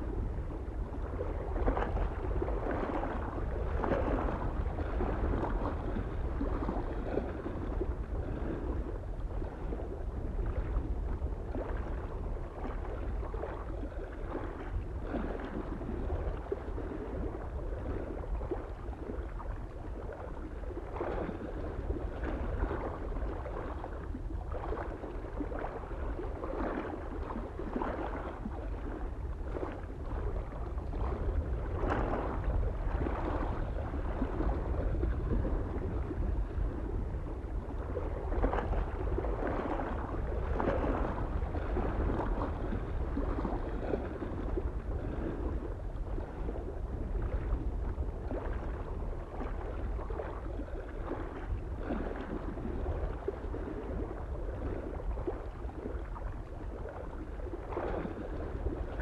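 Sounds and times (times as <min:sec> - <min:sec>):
soft wind rumble: 0:00.0 - 0:59.0
waves lapping against shore: 0:00.0 - 0:59.0.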